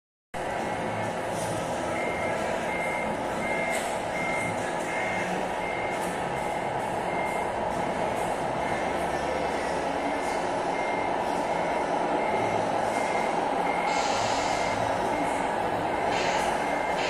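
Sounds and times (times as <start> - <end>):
hall background hum: 0.4 - 17.0
reversing beeper beeps: 0.5 - 17.0.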